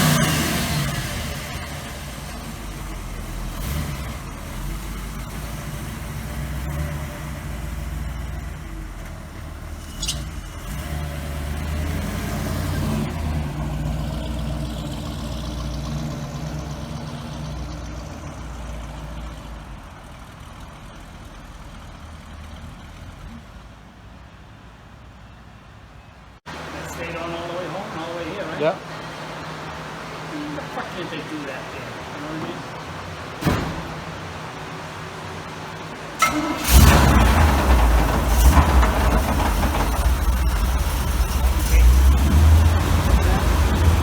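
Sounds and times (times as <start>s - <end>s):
car engine revving: 0.0s - 23.6s, 26.5s - 44.0s.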